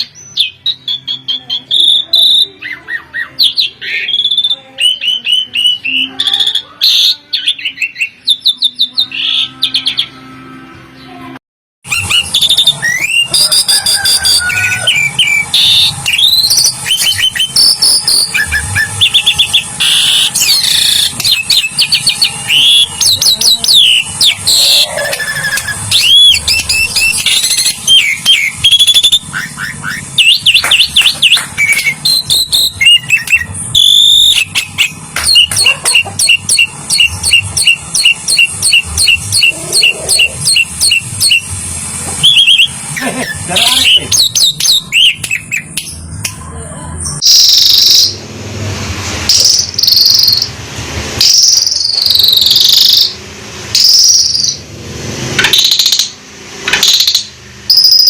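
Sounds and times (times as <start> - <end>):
starling singing: 0.0 - 10.3, 11.9 - 48.2.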